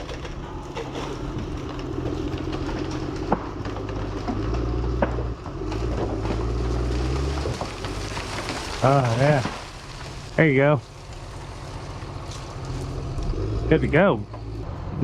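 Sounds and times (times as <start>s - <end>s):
heavy machine engine running: 0.0s - 10.2s, 10.8s - 15.0s
tree cracking: 0.0s - 13.7s.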